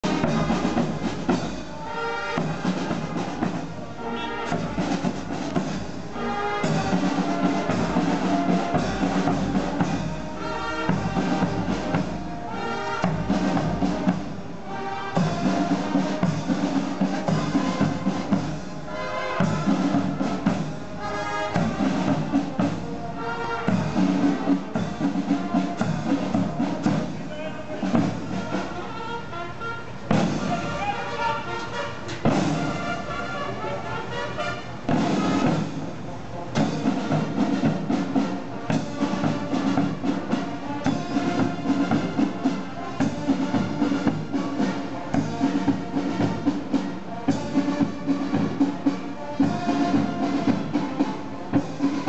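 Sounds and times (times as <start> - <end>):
marching band playing: 0.0 - 52.0.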